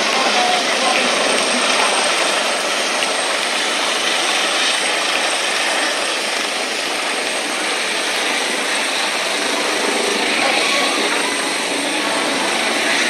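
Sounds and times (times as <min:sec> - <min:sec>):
helicopter flying low: 0:00.0 - 0:13.0.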